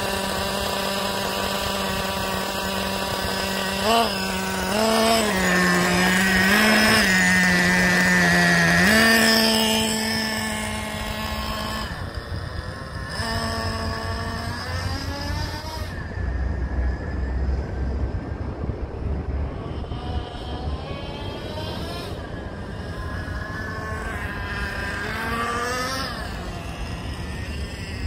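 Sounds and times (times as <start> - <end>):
small engine revving: 0.0 - 28.0.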